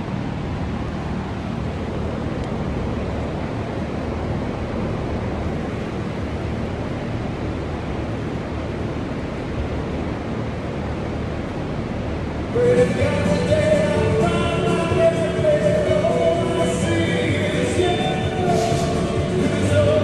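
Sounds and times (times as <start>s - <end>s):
low hum: 0.0s - 20.0s
rushing room noise: 0.0s - 20.0s.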